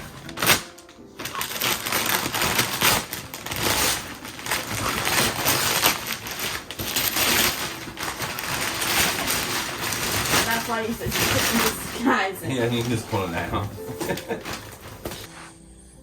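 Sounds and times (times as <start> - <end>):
wrapping paper tearing and crumpling: 0.0 - 15.5.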